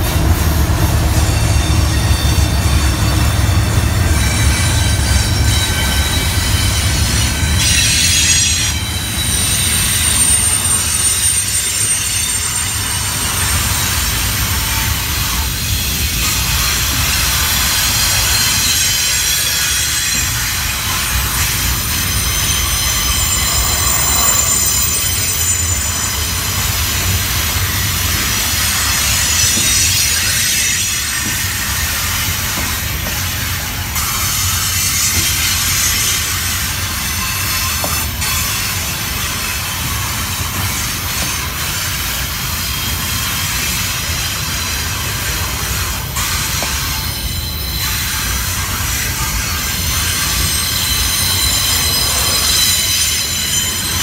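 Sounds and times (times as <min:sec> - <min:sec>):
diesel locomotive rumble: 0:00.0 - 0:54.0
train wheels rumbling on rail: 0:00.0 - 0:54.0
wheel squeal: 0:00.9 - 0:54.0.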